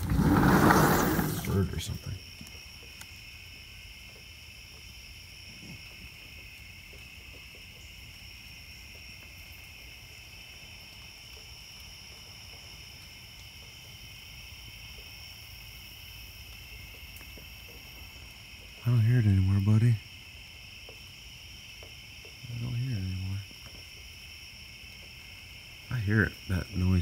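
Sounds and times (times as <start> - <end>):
night insects chorus: 0.0 - 27.0.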